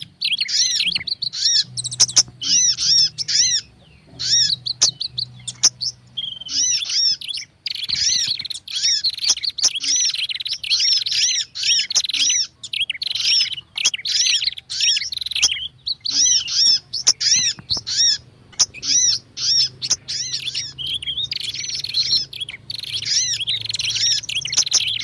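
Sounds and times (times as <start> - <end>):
birds chirping: 0.0 - 25.0
buzzy rattling bird trills: 0.0 - 25.0.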